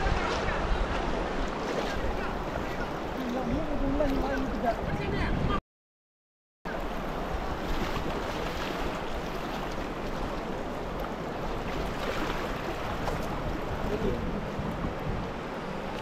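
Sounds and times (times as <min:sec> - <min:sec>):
flowing water rushing: 0:00.0 - 0:05.6, 0:06.7 - 0:16.0.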